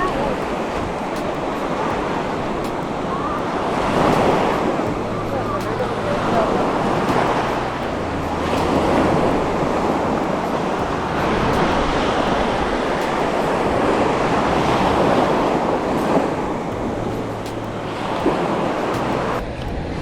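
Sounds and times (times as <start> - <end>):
surf washing onto beach: 0.0 - 19.4
wind rumble on microphone: 0.0 - 20.0.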